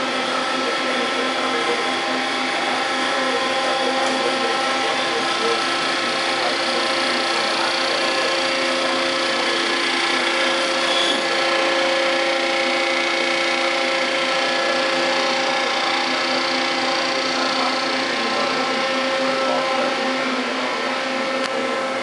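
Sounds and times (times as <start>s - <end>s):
lathe mechanical whine: 0.0s - 22.0s.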